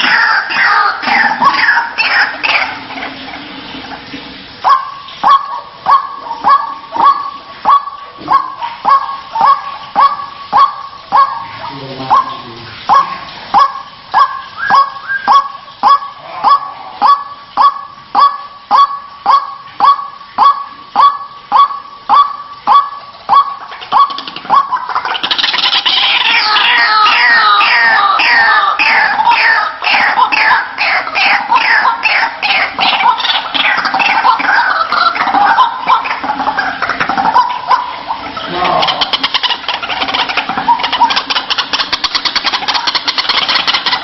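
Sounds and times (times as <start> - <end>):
waterhen harsh calls: 0.0 - 44.0.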